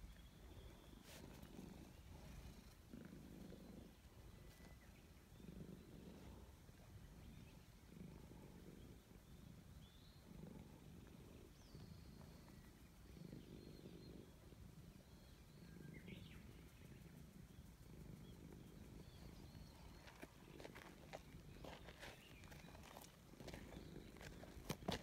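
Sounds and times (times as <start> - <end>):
cat purring: 0.0 - 25.0
faint bird chirps: 0.0 - 25.0.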